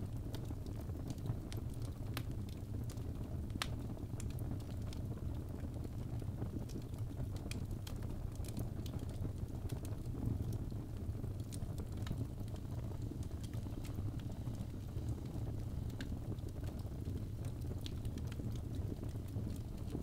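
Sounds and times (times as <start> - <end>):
logs crackling in fireplace: 0.0 - 20.0.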